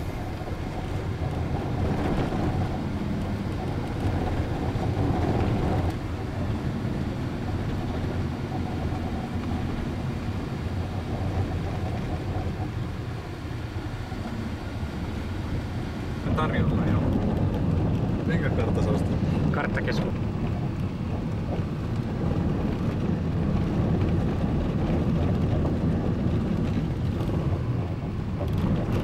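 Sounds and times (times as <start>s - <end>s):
car on gravel road rumble: 0.0s - 29.0s.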